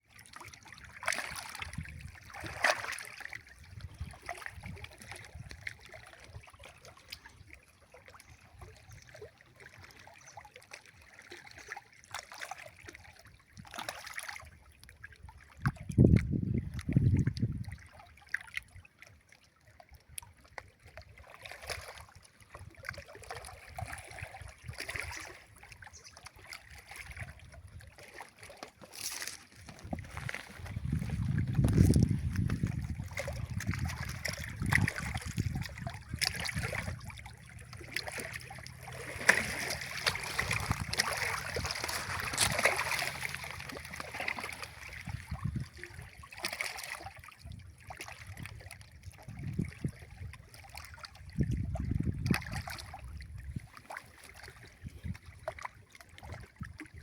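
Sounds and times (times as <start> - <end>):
water sloshing around boat: 0.0 - 57.0.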